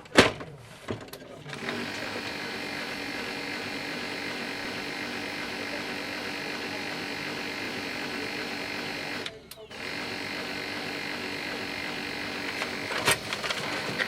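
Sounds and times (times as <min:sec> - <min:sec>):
small motor humming: 0:01.4 - 0:14.0.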